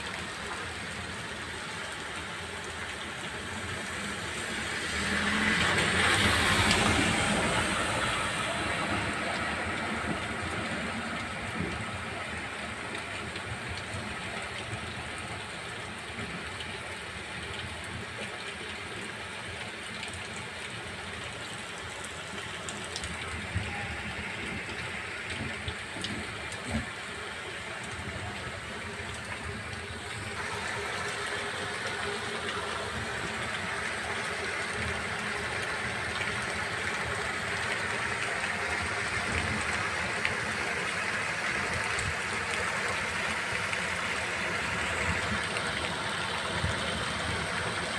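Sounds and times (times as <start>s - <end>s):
heavy rain on pavement: 0.0s - 47.9s.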